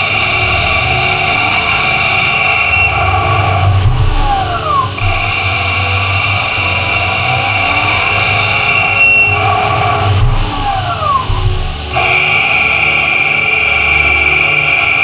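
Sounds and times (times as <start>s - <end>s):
lathe running with high whine: 0.0s - 15.0s.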